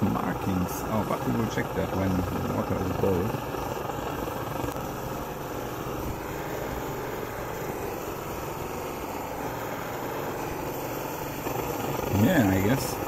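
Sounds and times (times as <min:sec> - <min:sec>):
camping stove burner rushing: 0:00.0 - 0:13.0.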